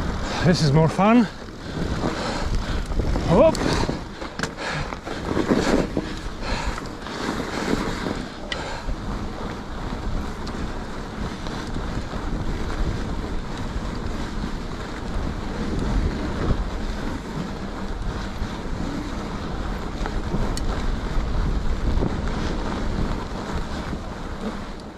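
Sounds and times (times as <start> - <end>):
tyres rolling on packed snow: 0.0 - 24.9
wind buffeting microphone: 0.0 - 24.9.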